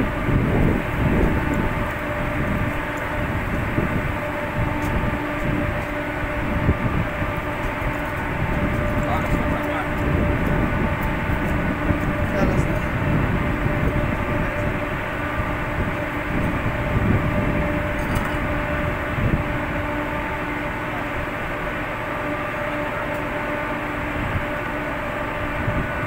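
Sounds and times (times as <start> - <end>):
ship machinery rushing noise: 0.0 - 26.0
steady humming tones: 0.0 - 26.0.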